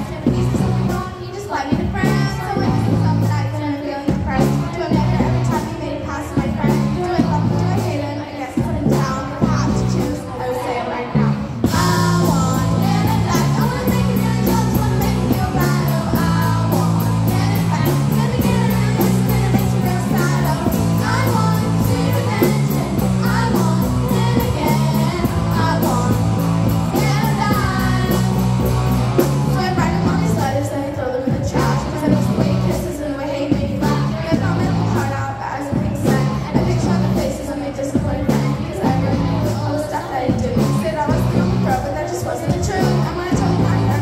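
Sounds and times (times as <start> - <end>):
drums playing steady beat: 0.0 - 10.3, 11.2 - 44.0
bass line: 0.0 - 44.0
girls singing together: 0.0 - 44.0.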